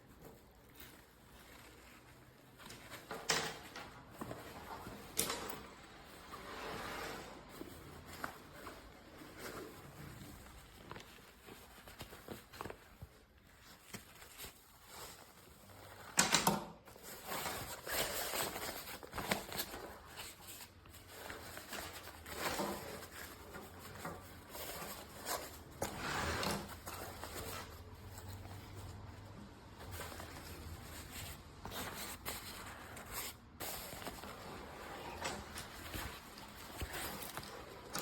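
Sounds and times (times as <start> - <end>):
fabric rustling and handling: 0.0 - 38.0.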